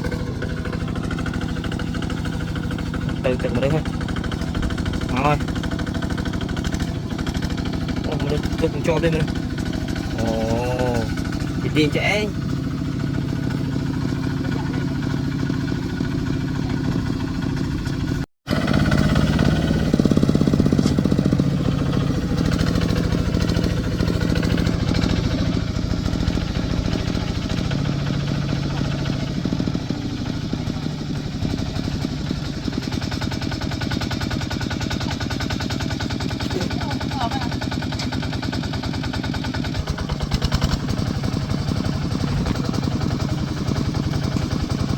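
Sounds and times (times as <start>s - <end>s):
tractor diesel engine chugging: 0.0s - 44.9s.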